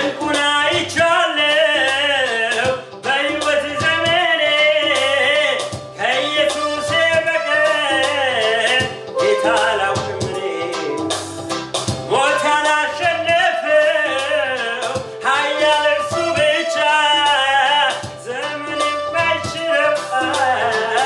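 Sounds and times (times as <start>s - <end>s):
man singing: 0.0s - 11.3s, 12.0s - 21.0s
keyboard with steady beat: 0.0s - 21.0s.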